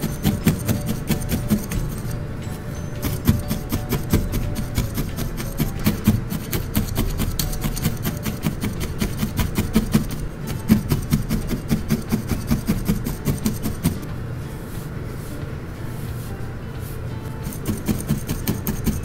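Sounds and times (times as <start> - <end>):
felting needle scratchy ticks: 0.0 - 14.1, 17.4 - 19.0.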